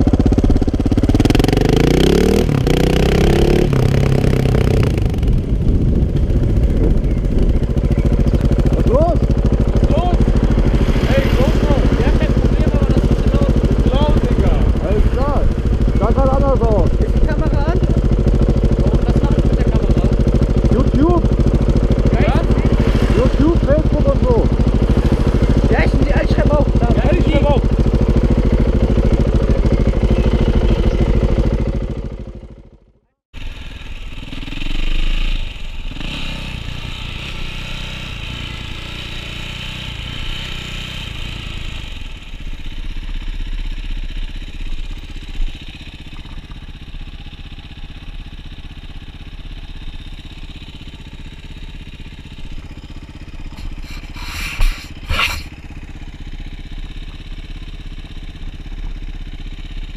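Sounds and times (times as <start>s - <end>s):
dirt bike engine running: 0.0s - 59.9s
motorcycle engine running loudly: 0.0s - 59.9s.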